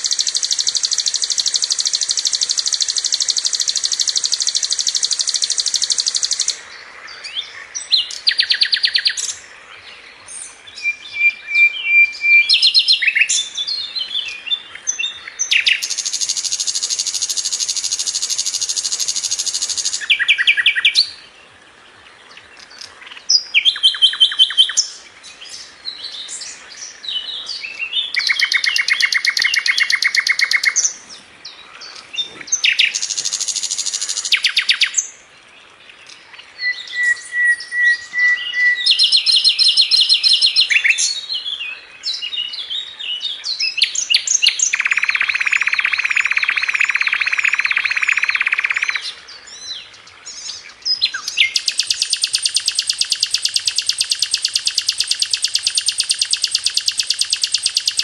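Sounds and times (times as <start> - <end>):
bird singing fast rattling trills: 0.0 - 9.5, 10.3 - 21.2, 22.6 - 35.2, 36.1 - 41.4, 43.5 - 58.0.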